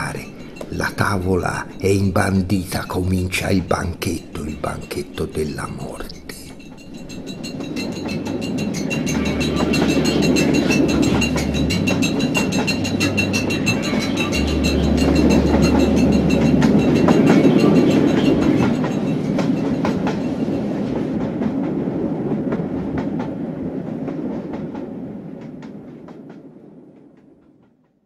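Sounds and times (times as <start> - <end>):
train wheels clacking on rails: 0.0 - 27.9.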